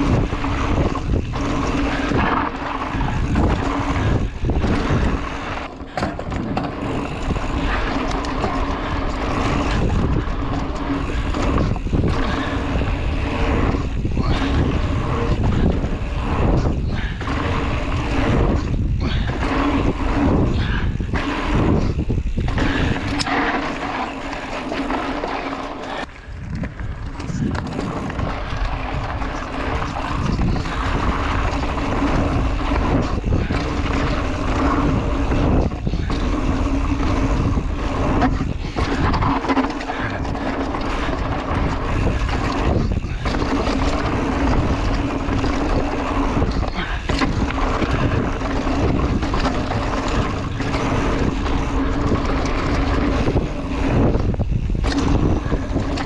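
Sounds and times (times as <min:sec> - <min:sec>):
tyres rumbling over ground: 0:00.0 - 0:56.0
wind rushing over microphone: 0:00.0 - 0:56.0.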